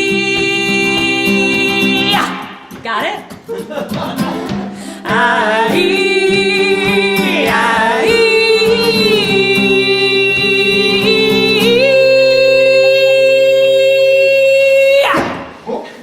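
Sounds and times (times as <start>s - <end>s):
person singing long notes: 0.0s - 2.5s, 5.0s - 15.4s.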